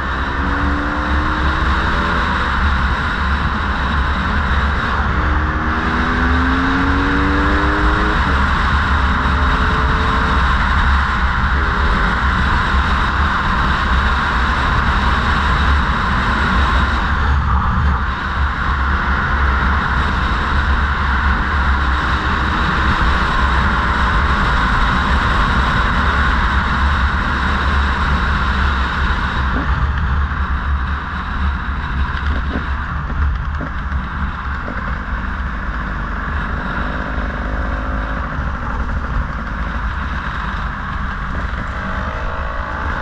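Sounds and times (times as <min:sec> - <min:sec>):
motorbike running: 0:00.0 - 0:43.0
wind on microphone: 0:00.0 - 0:43.0.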